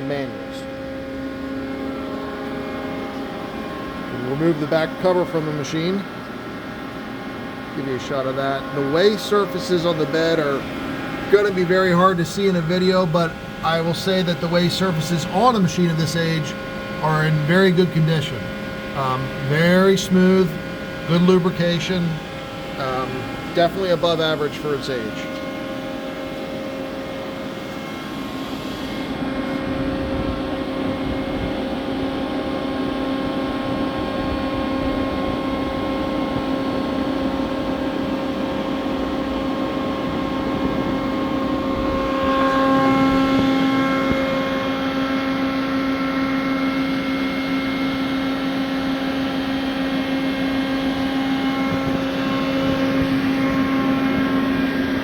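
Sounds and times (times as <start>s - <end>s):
machine humming with steady tones: 0.0s - 55.0s.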